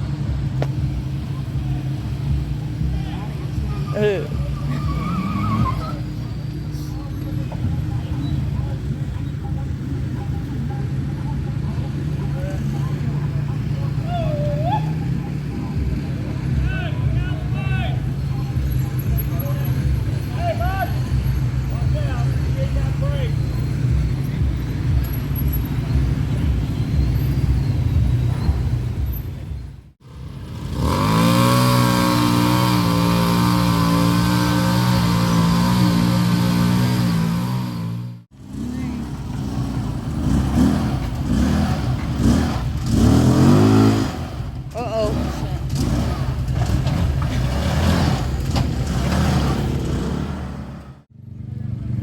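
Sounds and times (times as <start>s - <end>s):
off-road vehicle engine rumbling: 0.0s - 52.0s.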